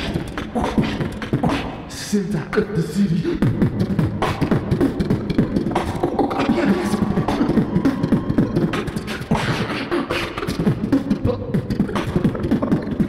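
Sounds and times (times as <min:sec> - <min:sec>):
beatboxing into microphone: 0:00.0 - 0:13.0.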